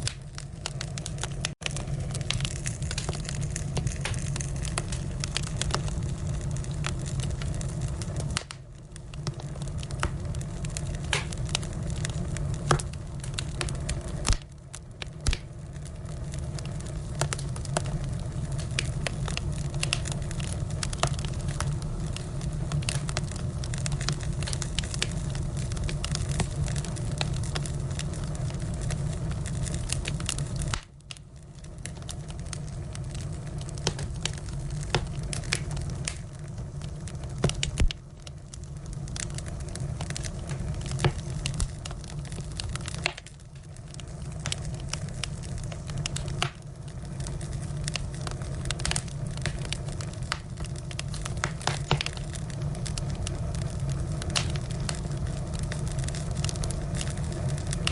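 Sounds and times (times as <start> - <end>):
fire crackling and popping: 0.0 - 57.9
low rustle of flame: 0.0 - 57.9.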